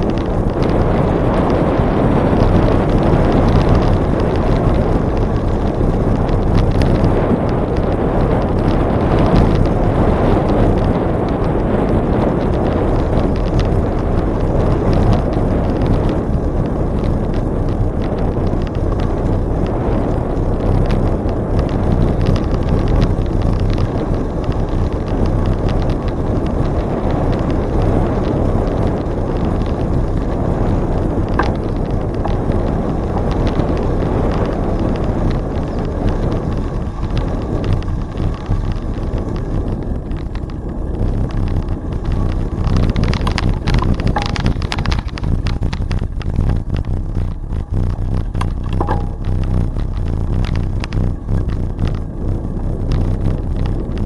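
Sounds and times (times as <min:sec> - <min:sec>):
bicycle tyre and road noise: 0:00.0 - 0:54.0
wind on microphone: 0:00.0 - 0:54.0.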